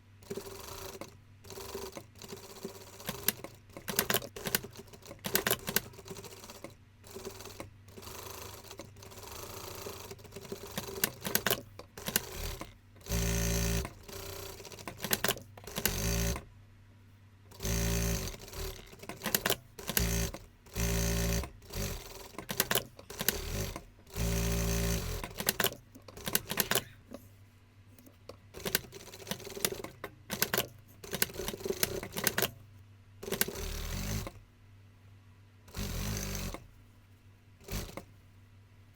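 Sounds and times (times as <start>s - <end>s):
sewing machine stitching: 0.2s - 16.4s, 17.5s - 27.2s, 28.6s - 32.6s, 33.2s - 34.4s, 35.7s - 36.7s, 37.6s - 38.1s.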